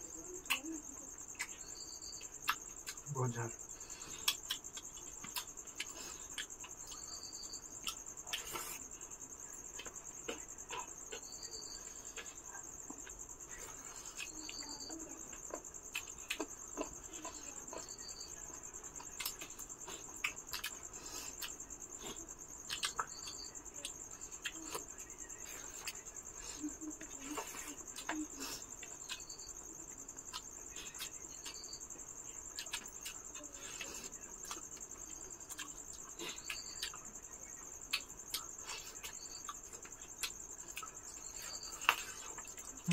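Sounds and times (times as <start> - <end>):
crickets trilling: 0.0 - 42.9
insect chirp: 0.0 - 42.9.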